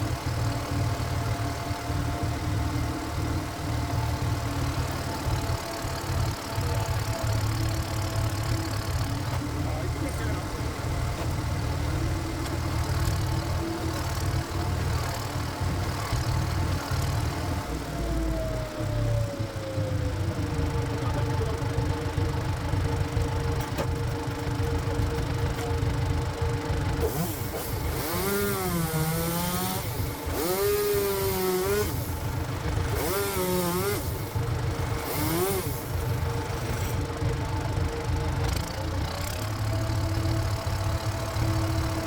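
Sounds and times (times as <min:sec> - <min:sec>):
diesel engine chugging: 0:00.0 - 0:42.0
high whine of log splitter: 0:00.0 - 0:42.0.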